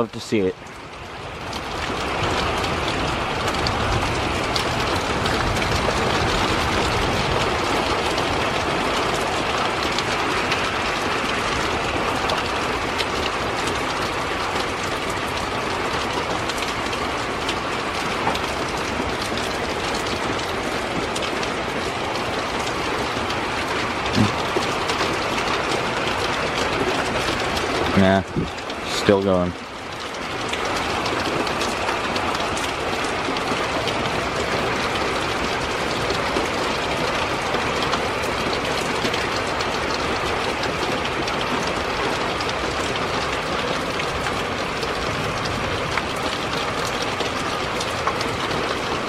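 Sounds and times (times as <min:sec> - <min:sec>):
heavy rain pouring: 0:00.0 - 0:49.0.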